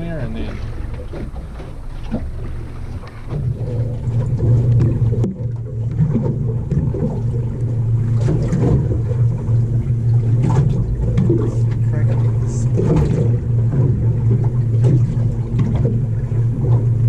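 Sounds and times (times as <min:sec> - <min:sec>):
boat engine drone: 0:00.0 - 0:17.0
water washing: 0:00.0 - 0:17.0
wind: 0:00.0 - 0:17.0.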